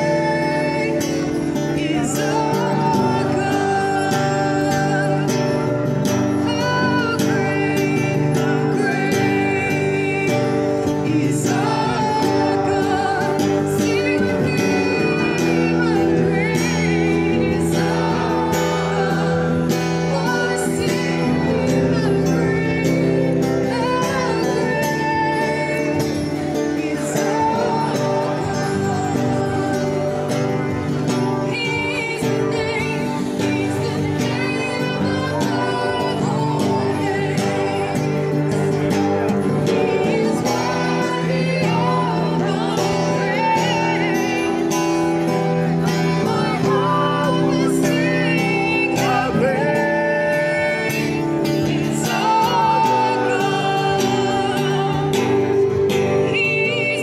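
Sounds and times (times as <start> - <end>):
strummed acoustic guitar: 0.0 - 57.0
woman singing: 0.0 - 57.0.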